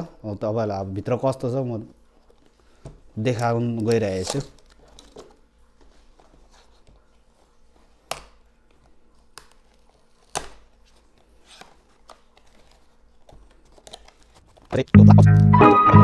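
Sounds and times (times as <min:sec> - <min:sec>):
packaging rustling: 0:01.8 - 0:14.9.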